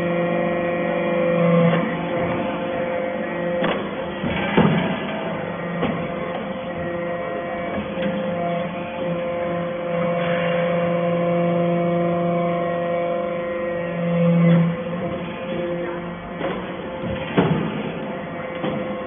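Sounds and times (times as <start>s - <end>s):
hydraulic motor and pump humming: 0.0s - 19.0s.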